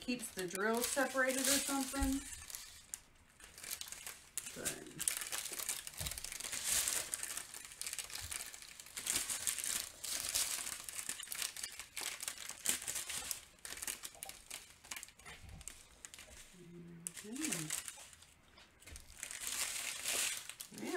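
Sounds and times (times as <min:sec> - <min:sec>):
plastic bags crinkling: 0:00.0 - 0:20.9.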